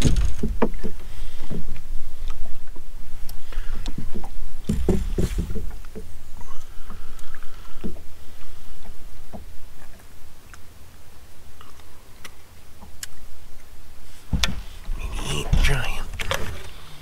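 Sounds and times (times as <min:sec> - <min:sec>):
water against boat hull: 0:00.0 - 0:17.0.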